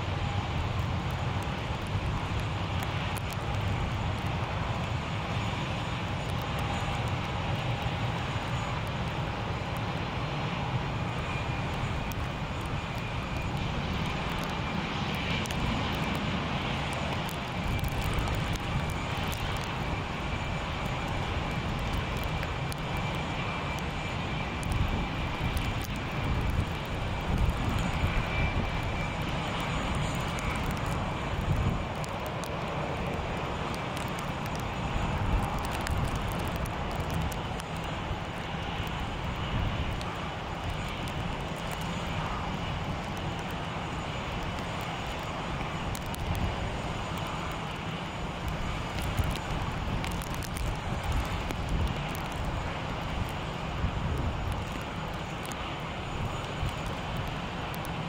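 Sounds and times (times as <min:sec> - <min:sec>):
jet engines whining and rumbling: 0:00.0 - 0:58.0.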